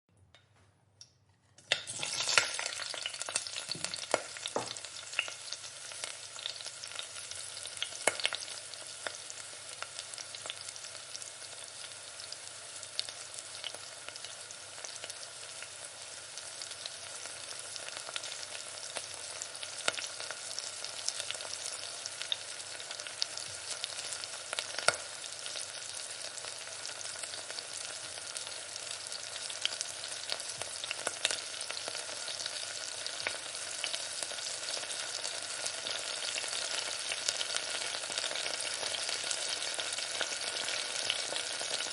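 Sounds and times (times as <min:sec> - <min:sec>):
food sizzling in a pan: 0:01.6 - 0:41.9.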